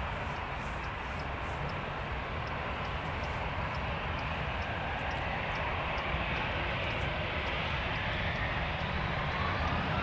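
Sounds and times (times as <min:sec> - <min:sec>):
distant jet engines running: 0:00.0 - 0:10.0.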